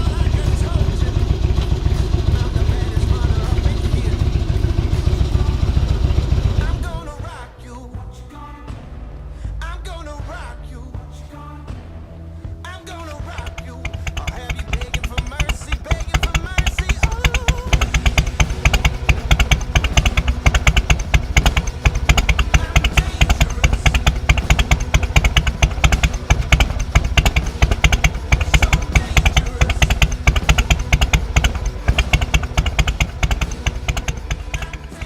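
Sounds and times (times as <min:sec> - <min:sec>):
motorcycle engine running: 0:00.0 - 0:07.3, 0:12.8 - 0:35.0.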